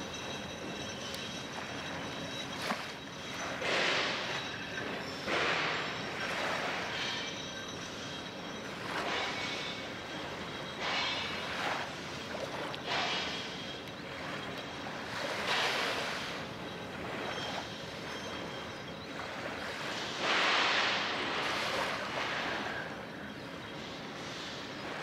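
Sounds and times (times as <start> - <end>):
water washing in waves: 0.0 - 23.3.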